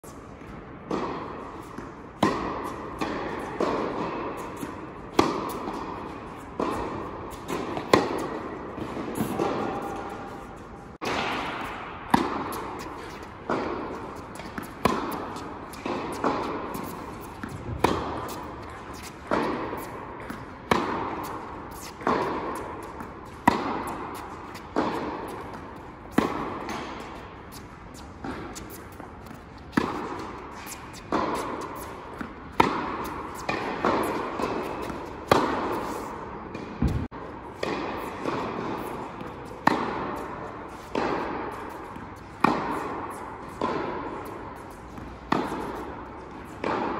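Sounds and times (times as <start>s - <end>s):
tennis ball hit with rackets: 0.1s - 46.9s.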